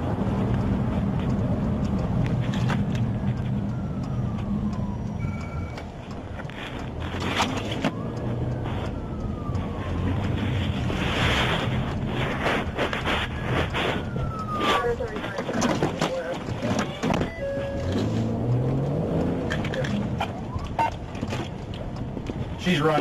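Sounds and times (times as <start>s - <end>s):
car engine hum and road rumble: 0.0s - 23.0s
faint siren: 2.4s - 21.1s.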